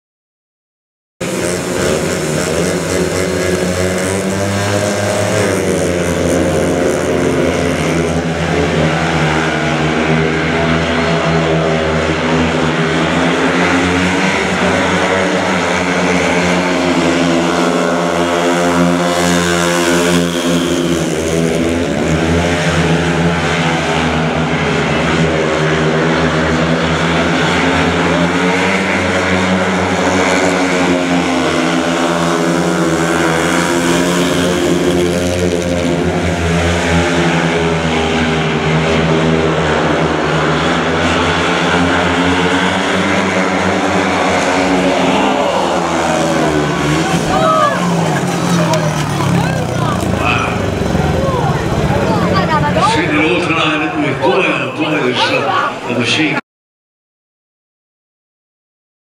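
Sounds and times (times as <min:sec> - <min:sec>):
motorcycle engines racing: 0:01.2 - 0:56.4.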